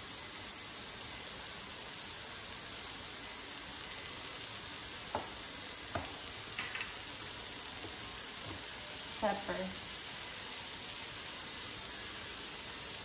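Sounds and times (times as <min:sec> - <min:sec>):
carrots sizzling in a frying pan: 0:00.0 - 0:13.0.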